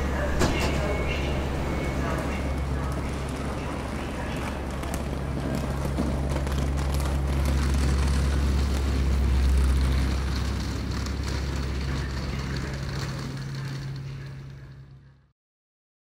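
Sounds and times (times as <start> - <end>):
train cars clicking and rattling: 0.0 - 15.0
train rumbling past: 0.0 - 15.2.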